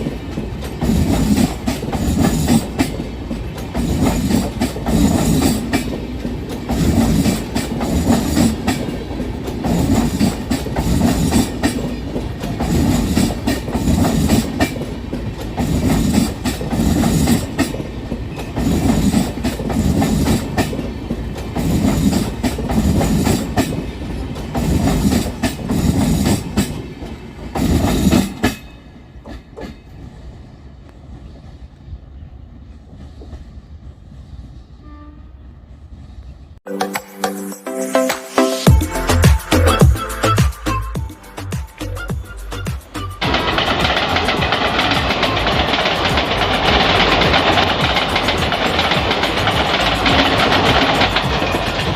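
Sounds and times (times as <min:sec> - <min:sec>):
train wheels clickety-clack: 0:00.0 - 0:31.8, 0:32.7 - 0:34.5, 0:42.2 - 0:51.9
low train rumble: 0:00.0 - 0:36.6, 0:40.6 - 0:51.9.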